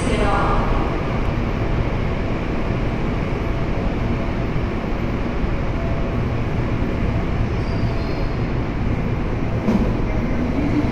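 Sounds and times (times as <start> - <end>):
train wheels rumbling: 0.0 - 10.9.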